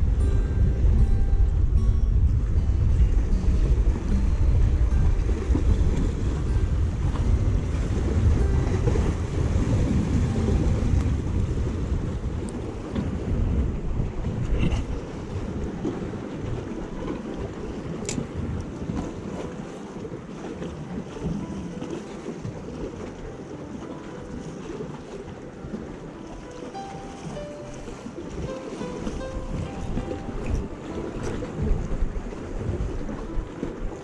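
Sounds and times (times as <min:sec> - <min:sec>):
wind buffeting microphone: 0:00.0 - 0:34.0
waves washing against concrete: 0:02.9 - 0:34.0.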